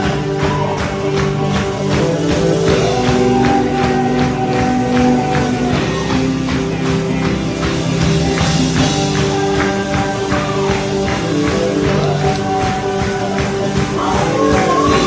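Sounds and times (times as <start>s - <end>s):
keyboard and guitar notes: 0.0s - 15.0s
percussion beat: 0.0s - 15.0s
worship band playing upbeat song: 0.0s - 15.0s.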